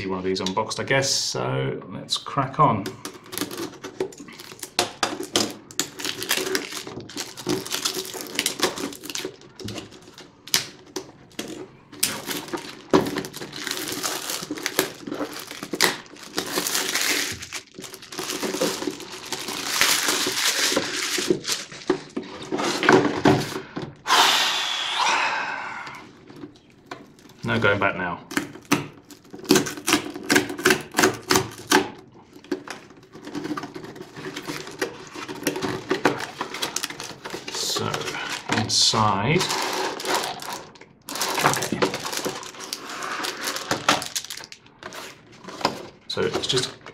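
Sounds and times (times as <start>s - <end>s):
plastic wrap crinkling: 3.0s - 23.0s, 26.2s - 46.9s.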